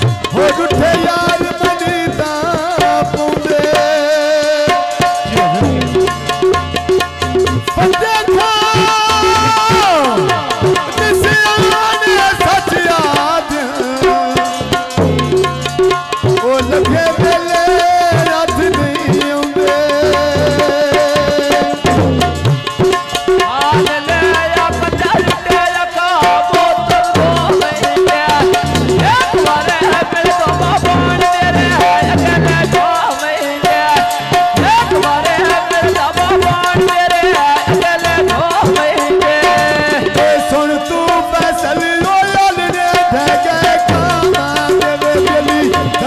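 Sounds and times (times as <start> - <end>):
hand drum rhythm: 0.0 - 46.0
man singing: 0.0 - 46.0.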